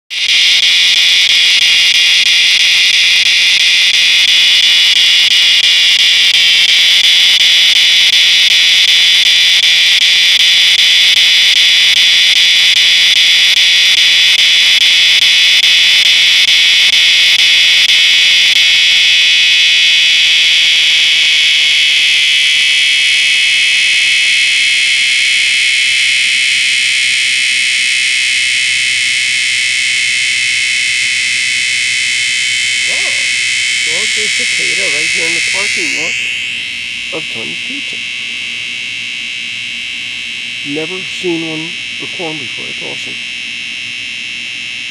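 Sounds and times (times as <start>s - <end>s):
cicada buzzing: 0.1s - 44.9s.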